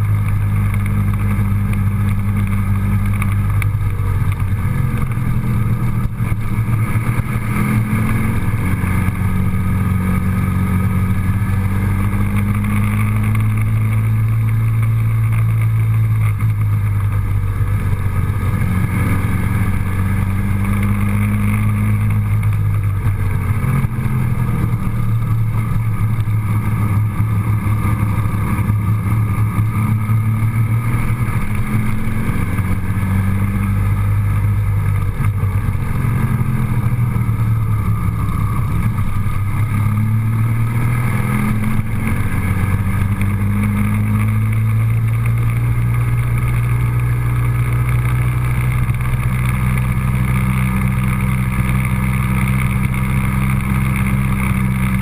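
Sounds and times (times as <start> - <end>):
road noise: 0.0 - 55.0
vehicle engine: 0.0 - 55.0.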